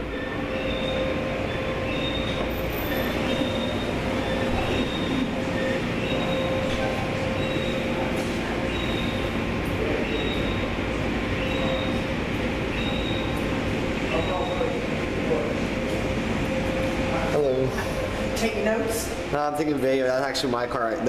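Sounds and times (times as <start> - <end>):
car wash machinery din: 0.0 - 21.0
constant hum: 0.0 - 21.0.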